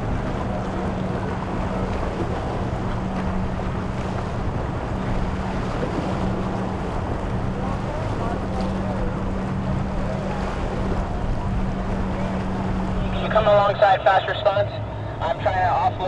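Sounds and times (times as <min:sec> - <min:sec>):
wind buffeting microphone: 0:00.0 - 0:13.7
boat engines idling: 0:00.0 - 0:16.0
waves washing: 0:00.0 - 0:16.0.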